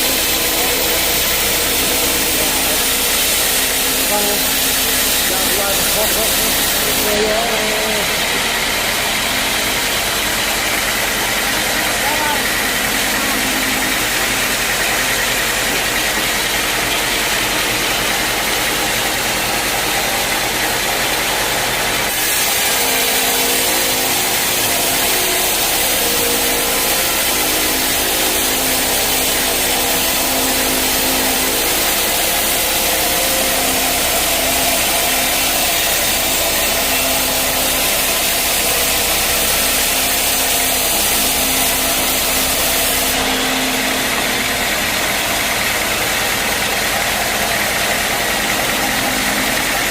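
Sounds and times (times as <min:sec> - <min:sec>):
motor running steadily: 0:00.0 - 0:49.9
saw blade cutting log: 0:00.0 - 0:49.9.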